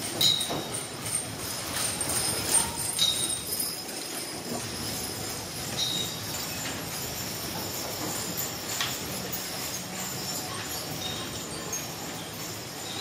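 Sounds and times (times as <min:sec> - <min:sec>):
harness fittings jingling: 0:00.0 - 0:13.0.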